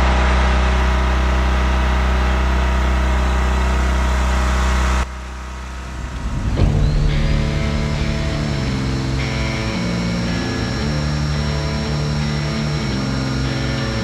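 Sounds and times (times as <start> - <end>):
generator engine running: 0.0 - 14.0
quieter steady hum: 0.0 - 14.0
rising sound: 0.6 - 13.3.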